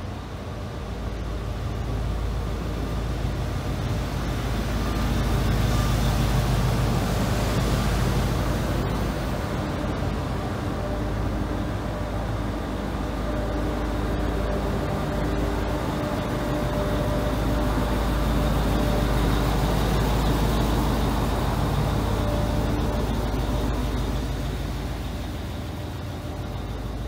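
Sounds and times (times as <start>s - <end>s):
train running past: 0.0s - 27.0s.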